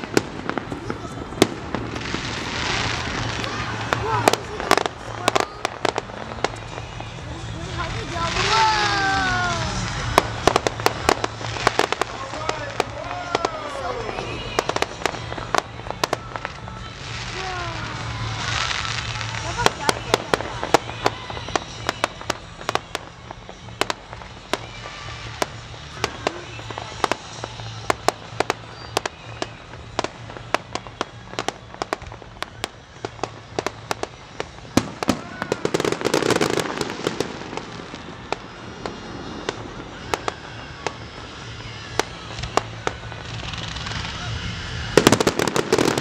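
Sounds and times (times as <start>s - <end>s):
fireworks bangs and pops: 0.0s - 46.0s.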